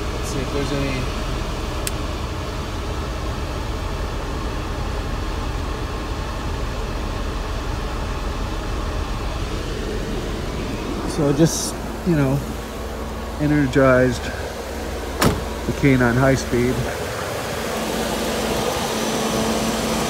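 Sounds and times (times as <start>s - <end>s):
car engine running: 0.0s - 20.0s
electric cooling fans running: 0.0s - 20.0s.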